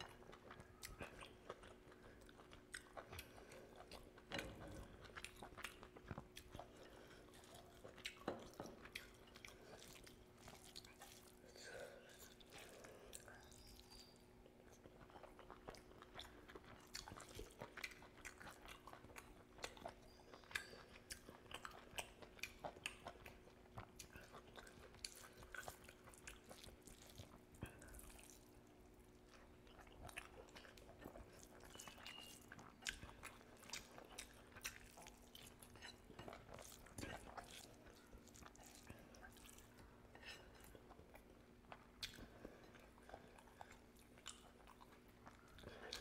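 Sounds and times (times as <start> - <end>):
chewing and lip-smacking: 0.0 - 46.0.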